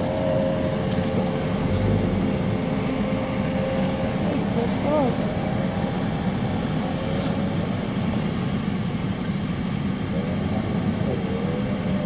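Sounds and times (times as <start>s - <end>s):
speedboat engine drone: 0.0s - 12.0s.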